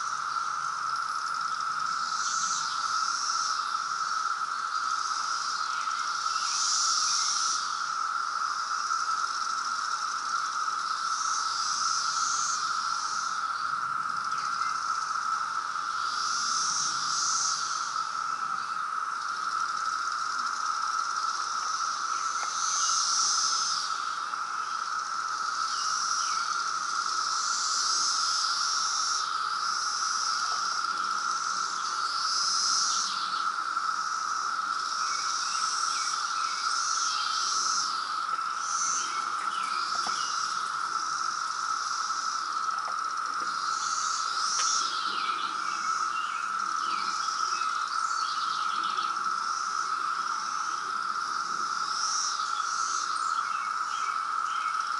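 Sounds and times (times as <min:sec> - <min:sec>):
cicadas droning: 0:00.0 - 0:54.9
fluttering higher insect sound: 0:00.0 - 0:54.9.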